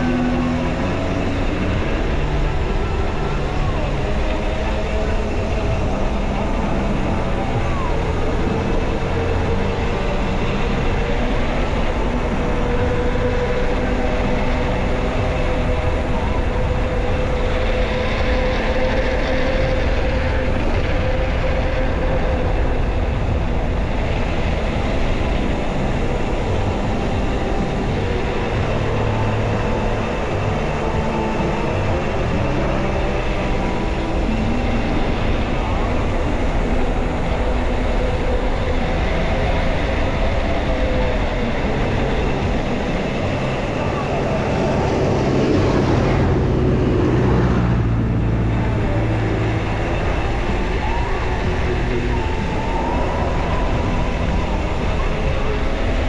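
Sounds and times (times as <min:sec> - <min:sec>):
low hum drifting in pitch: 0:00.0 - 0:56.0
wind and road noise: 0:00.0 - 0:56.0.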